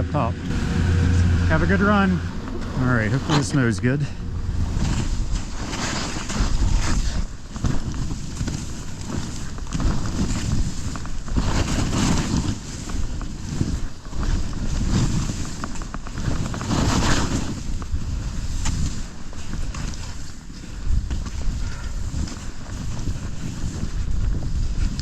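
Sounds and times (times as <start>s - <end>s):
wind rumbling on microphone: 0.0s - 25.0s
skis scraping through snow: 2.8s - 25.0s.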